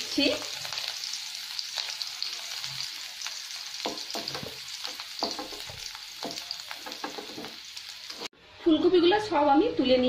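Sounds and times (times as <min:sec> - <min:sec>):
vegetables sizzling in oil: 0:00.0 - 0:08.3.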